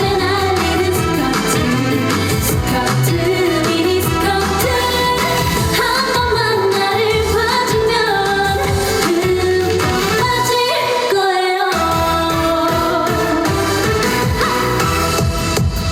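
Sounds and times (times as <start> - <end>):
woman singing: 0.0 - 14.4
backing track with steady beat: 0.0 - 15.9.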